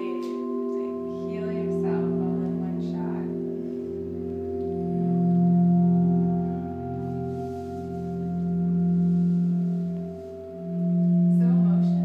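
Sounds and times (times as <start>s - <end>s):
ambient drone of held tones: 0.0s - 12.0s.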